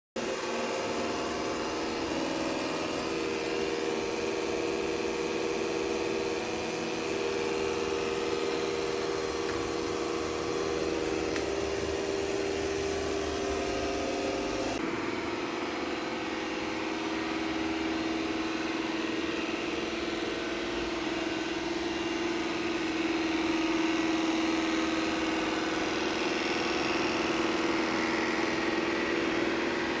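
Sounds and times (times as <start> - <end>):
robot vacuum droning hum: 0.2 - 30.0.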